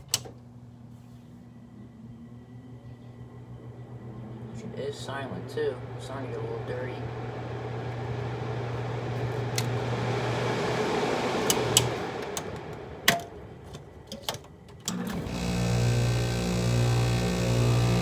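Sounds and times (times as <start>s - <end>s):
compressor pulsing low hum: 0.0s - 14.2s, 14.8s - 18.0s
air conditioner fan humming: 0.0s - 18.0s.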